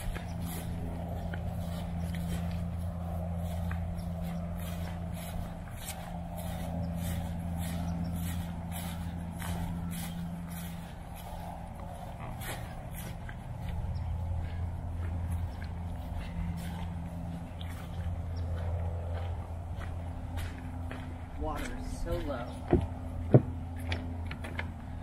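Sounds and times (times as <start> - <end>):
footsteps on a trail: 0.0 - 25.0
steady low hum: 0.0 - 25.0.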